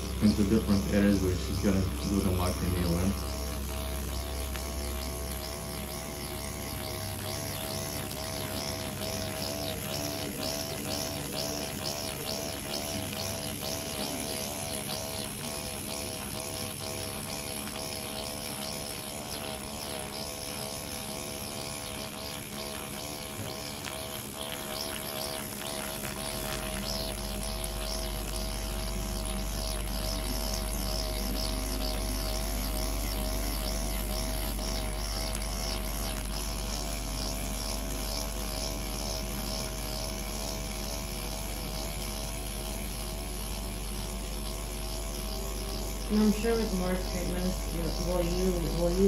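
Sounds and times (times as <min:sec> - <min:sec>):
electric pen buzzing: 0:00.0 - 0:49.0.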